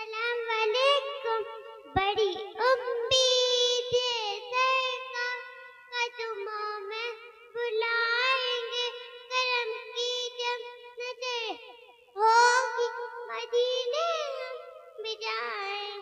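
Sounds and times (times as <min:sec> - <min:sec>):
girl singing: 0:00.0 - 0:16.0.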